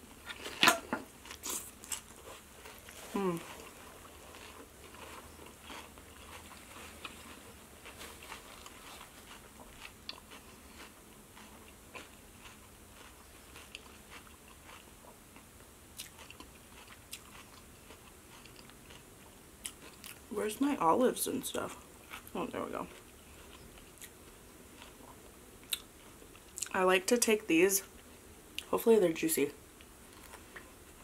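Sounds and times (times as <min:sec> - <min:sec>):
faint chewing: 0:00.2 - 0:20.3, 0:21.6 - 0:26.8, 0:29.8 - 0:31.0.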